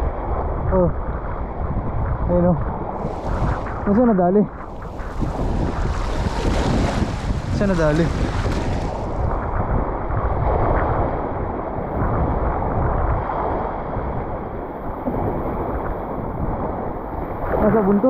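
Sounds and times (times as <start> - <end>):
wind rumbling on microphone: 0.0 - 18.0
sea waves washing: 2.7 - 18.0.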